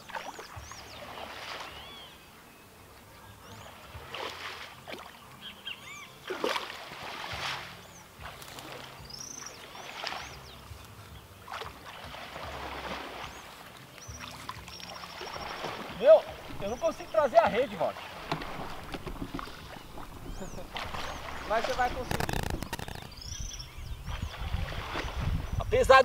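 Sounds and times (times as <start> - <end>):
water sloshing and splashing: 0.0 - 2.1, 3.6 - 5.4, 6.2 - 25.8
small birds chirping: 0.0 - 6.5, 7.8 - 12.2, 13.2 - 26.0.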